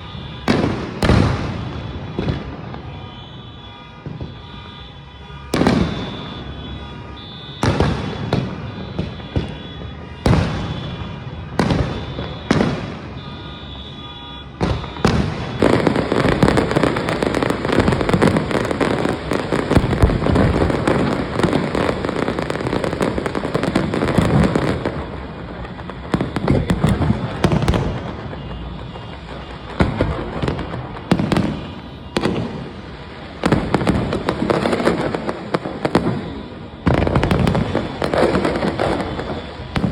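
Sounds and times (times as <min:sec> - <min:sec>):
fireworks barrage crackling: 0:00.0 - 0:39.9
fireworks booming: 0:00.0 - 0:39.9.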